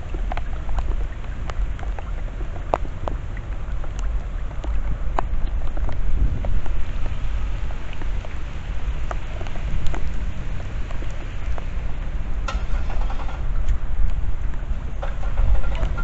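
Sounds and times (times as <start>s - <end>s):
low rumble: 0.0s - 16.0s
steady rain falling: 0.0s - 16.0s.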